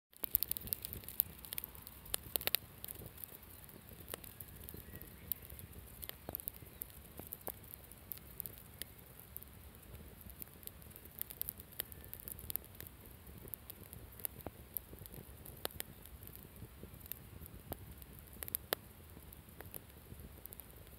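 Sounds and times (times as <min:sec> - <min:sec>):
campfire crackling and popping: 0:00.1 - 0:20.9.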